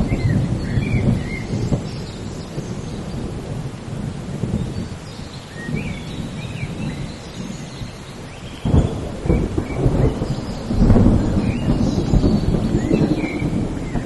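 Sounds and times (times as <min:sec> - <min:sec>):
rolling thunder: 0:00.0 - 0:07.9, 0:08.6 - 0:14.0
steady rain: 0:00.0 - 0:14.0.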